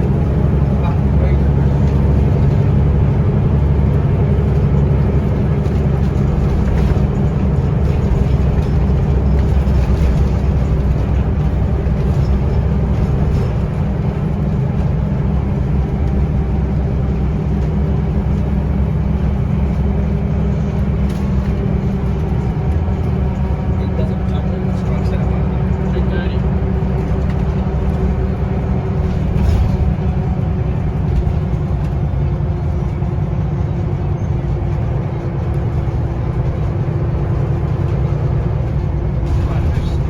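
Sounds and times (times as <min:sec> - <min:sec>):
bus diesel engine running: 0:00.0 - 0:40.0.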